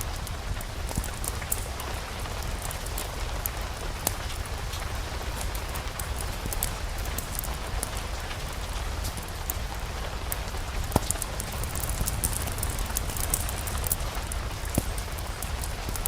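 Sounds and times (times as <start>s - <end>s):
fireplace fire crackling: 0.0s - 16.0s
rain pattering: 0.0s - 16.0s.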